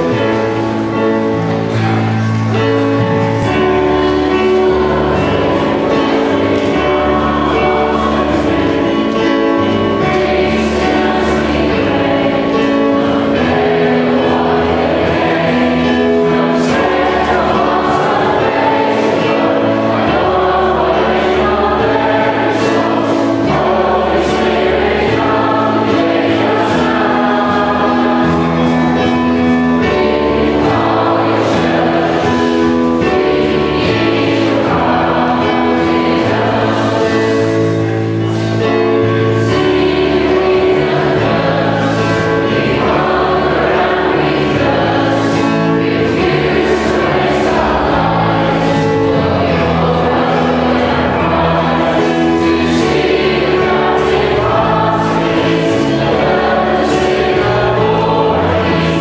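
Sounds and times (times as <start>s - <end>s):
crowd singing a hymn: 0.0s - 59.0s
instrumental accompaniment: 0.0s - 59.0s.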